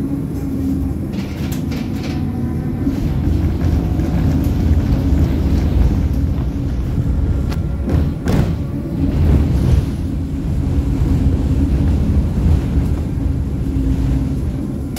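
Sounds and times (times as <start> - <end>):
tram rumbling on track: 0.0 - 14.9.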